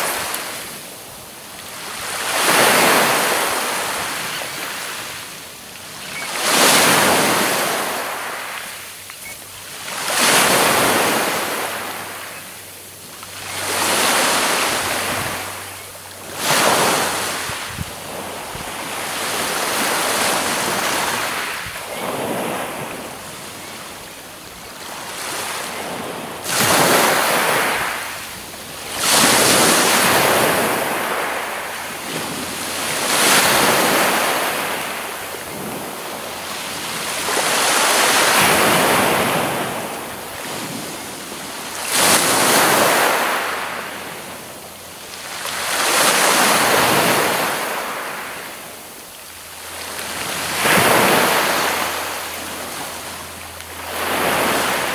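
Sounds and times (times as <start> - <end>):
waves breaking on pebble beach: 0.0 - 5.3, 6.2 - 8.8, 9.7 - 12.3, 13.4 - 23.8, 24.7 - 44.5, 45.2 - 48.6, 49.7 - 53.1, 53.8 - 54.9.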